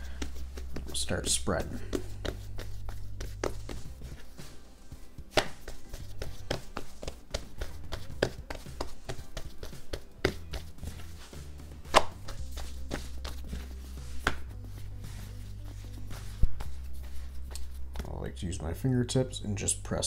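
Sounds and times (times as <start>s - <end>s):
hands patting dough: 0.0s - 18.4s.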